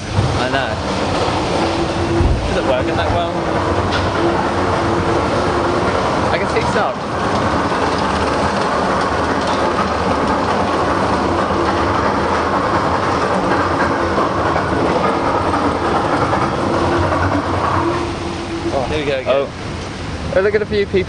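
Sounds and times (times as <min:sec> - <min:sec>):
roller coaster wheels rumbling on rail: 0:00.0 - 0:21.0.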